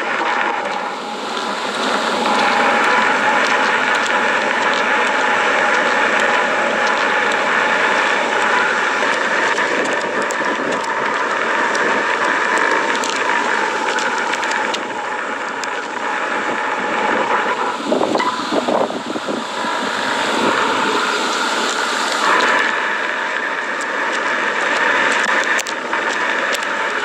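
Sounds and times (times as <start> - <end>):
crackles: 0.0 - 27.0
steam rushing hiss: 0.0 - 27.0.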